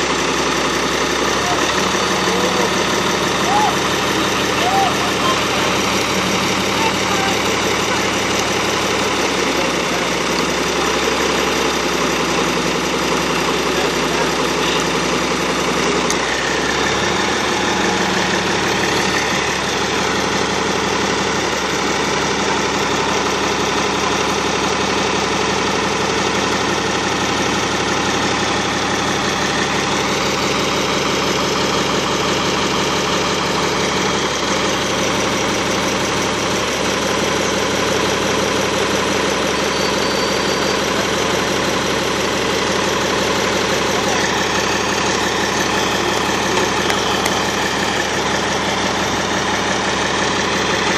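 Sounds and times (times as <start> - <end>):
motor engine idling: 0.0 - 50.9.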